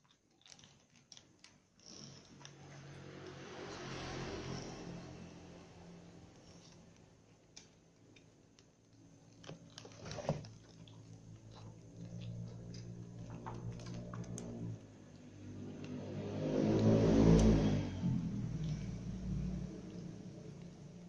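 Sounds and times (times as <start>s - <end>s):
cats chewing food: 0.0s - 4.8s, 6.1s - 16.0s, 18.1s - 21.0s.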